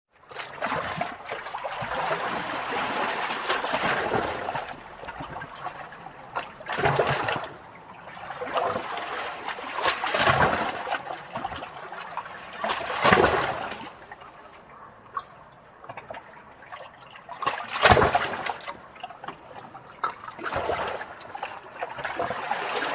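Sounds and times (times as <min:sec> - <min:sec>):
sea waves splashing against rocks: 0:00.3 - 0:14.6, 0:17.2 - 0:22.9.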